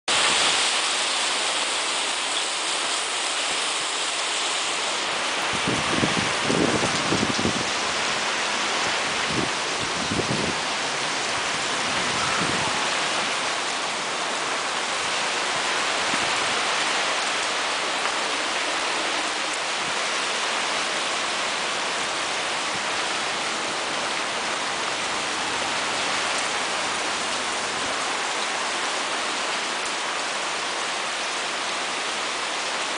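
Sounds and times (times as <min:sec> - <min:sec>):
steady rain: 0:00.1 - 0:32.9.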